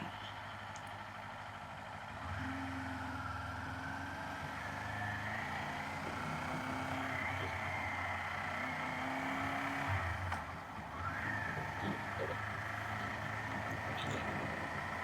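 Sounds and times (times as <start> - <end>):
motorcycle engine accelerating: 2.1 - 15.0.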